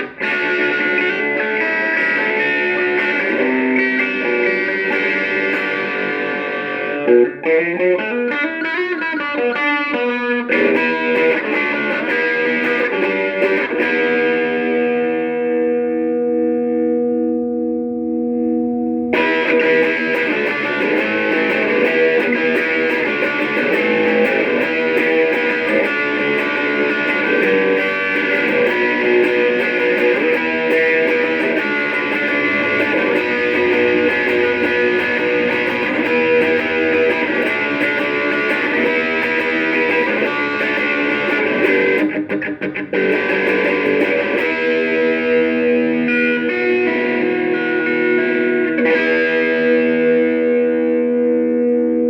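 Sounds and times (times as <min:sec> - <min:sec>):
electric guitar strummed chords: 0:00.0 - 0:52.0.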